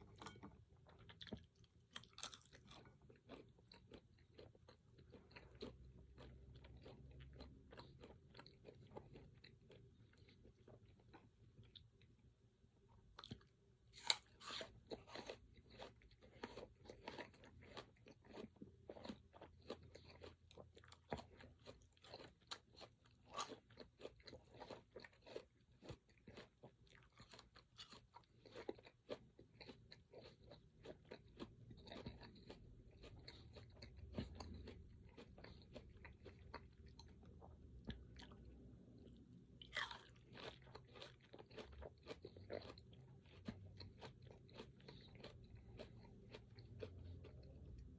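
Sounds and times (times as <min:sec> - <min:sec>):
chewing crunchy food: 0:00.0 - 0:47.9.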